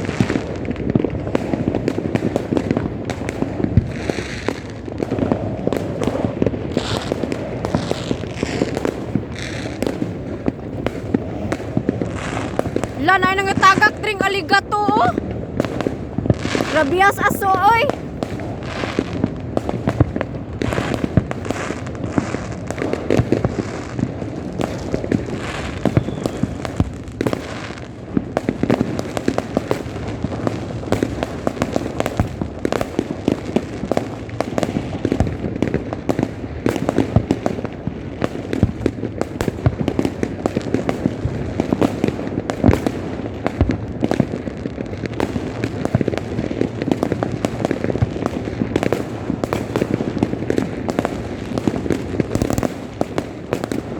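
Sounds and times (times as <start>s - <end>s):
fireworks and firecrackers banging: 0.0s - 53.9s.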